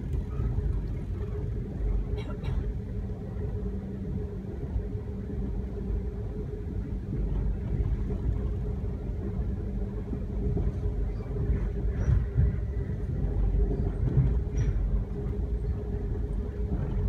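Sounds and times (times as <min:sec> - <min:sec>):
constant hum: 0:00.0 - 0:17.0
train rumble: 0:00.0 - 0:17.0.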